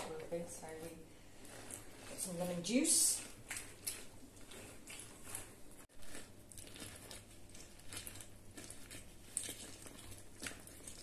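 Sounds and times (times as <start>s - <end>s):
lemon squelching on juicer: 0.1s - 11.0s.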